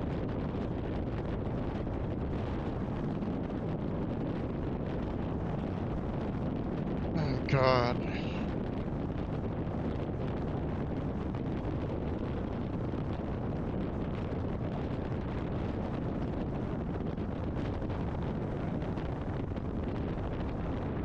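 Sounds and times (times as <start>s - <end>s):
wind rush: 0.0s - 21.0s.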